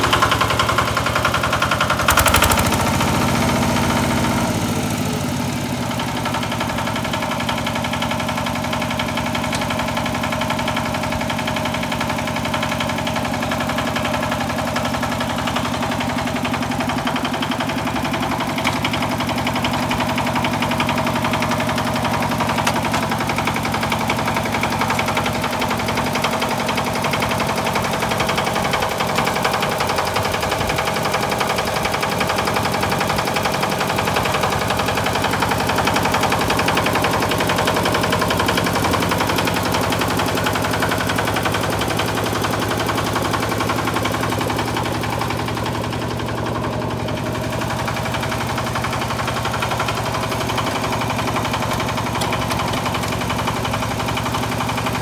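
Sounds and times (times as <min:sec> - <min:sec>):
tiller diesel engine running: 0:00.0 - 0:55.0.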